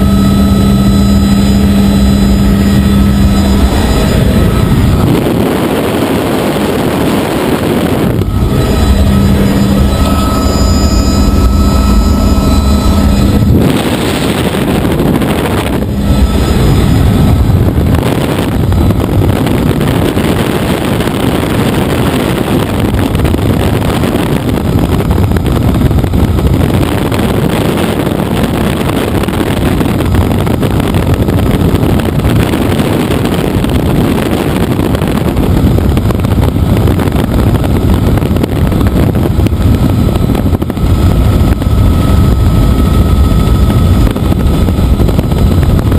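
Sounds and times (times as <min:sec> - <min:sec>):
engine whine: 0:00.0 - 0:45.9
helicopter rotor and engine: 0:00.0 - 0:45.9
wind on microphone: 0:00.0 - 0:45.9.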